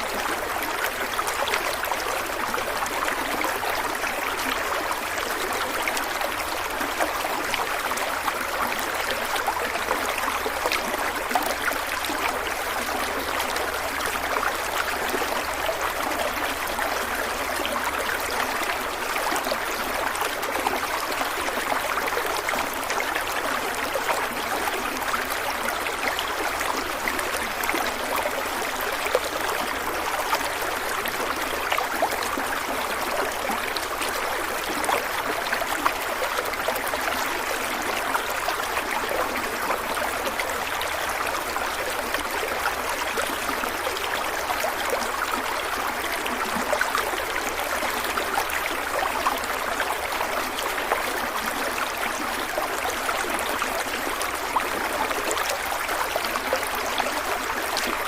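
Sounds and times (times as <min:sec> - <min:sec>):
stream babbling and splashing: 0:00.0 - 0:58.0.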